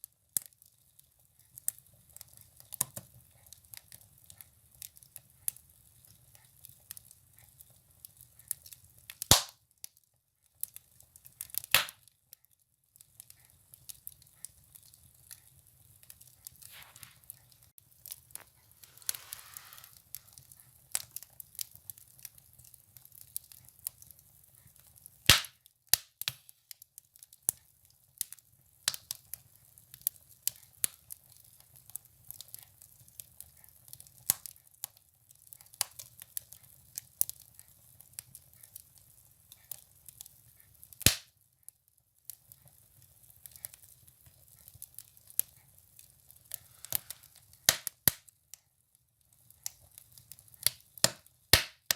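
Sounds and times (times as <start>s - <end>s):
firewood crackling and popping: 0.0s - 51.9s.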